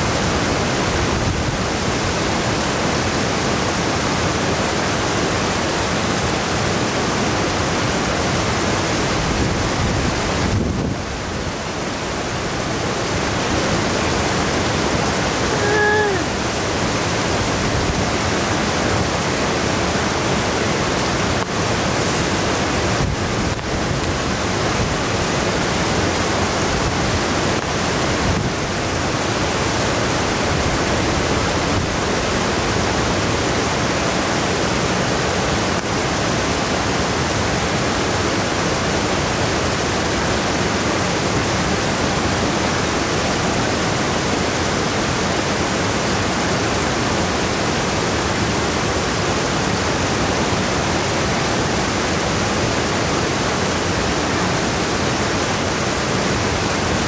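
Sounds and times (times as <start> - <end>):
whitewater rushing: 0.0 - 57.0.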